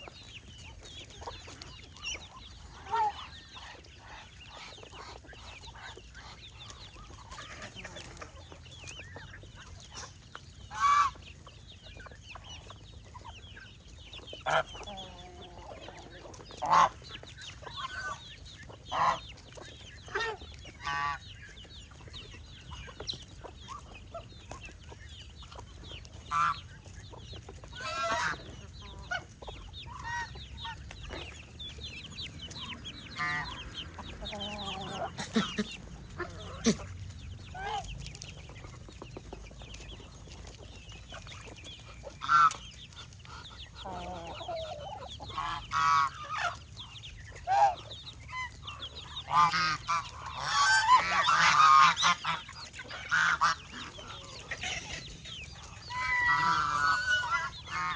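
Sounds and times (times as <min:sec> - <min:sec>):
hens clucking: 0:00.0 - 0:57.9.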